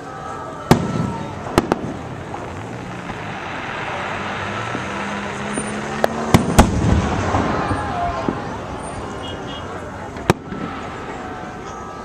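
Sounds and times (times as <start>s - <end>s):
fireworks bursting: 0.0s - 12.0s
vehicle noise hum: 0.0s - 12.0s.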